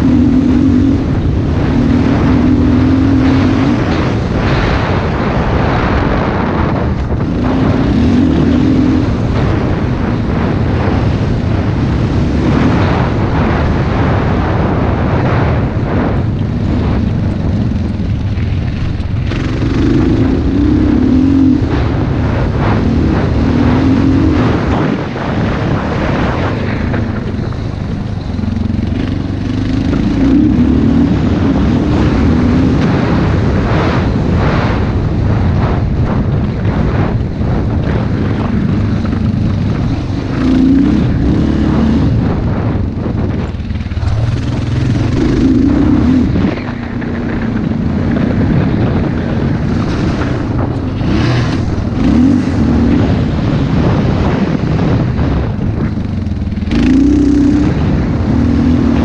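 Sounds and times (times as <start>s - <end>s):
motocross bike engine revving: 0.0s - 59.0s
wind buffeting microphone: 0.0s - 59.0s.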